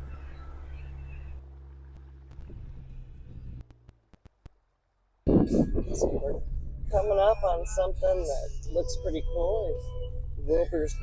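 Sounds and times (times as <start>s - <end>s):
engine droning low: 0.0s - 11.0s.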